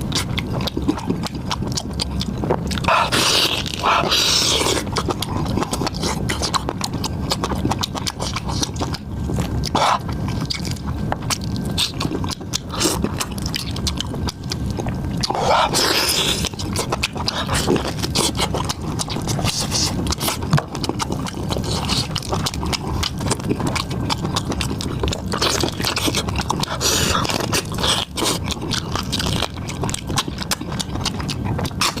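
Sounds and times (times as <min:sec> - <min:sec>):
person chewing crunchy food: 0:00.0 - 0:32.0
wet mouth noises: 0:00.0 - 0:32.0.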